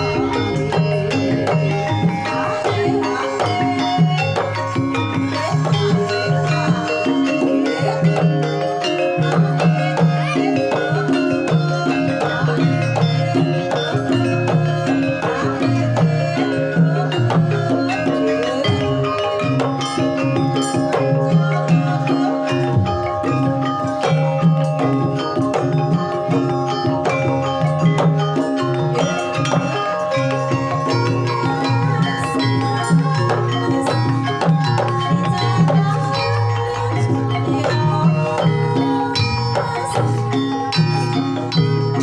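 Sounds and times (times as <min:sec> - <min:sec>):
metallophones and gongs ringing: 0:00.0 - 0:42.0.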